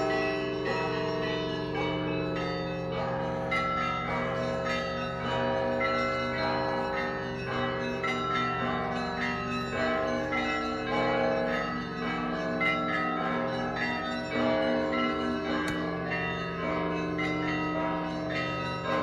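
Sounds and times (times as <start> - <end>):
large bells ringing low: 0.0 - 19.0.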